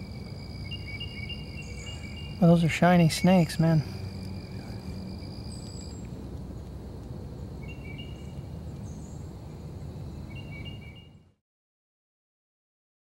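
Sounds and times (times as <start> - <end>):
high insect trill: 0.0 - 11.2.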